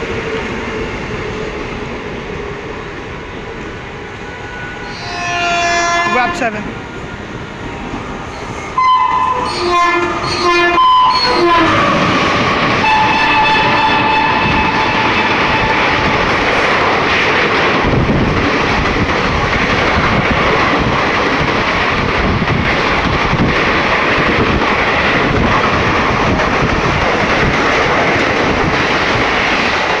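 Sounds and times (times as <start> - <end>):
train wheels rushing on rails: 0.0 - 30.0.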